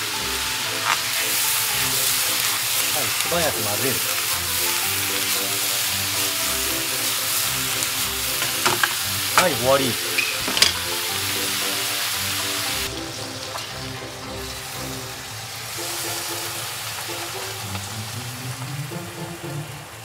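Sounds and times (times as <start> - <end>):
food sizzling in a pan: 0.0 - 20.0
light background music: 0.0 - 20.0.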